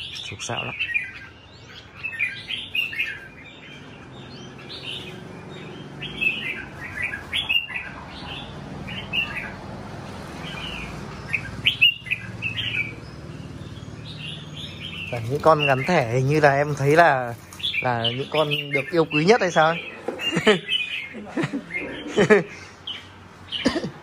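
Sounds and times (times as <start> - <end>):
birds singing chirpy phrases: 0.0 - 24.0.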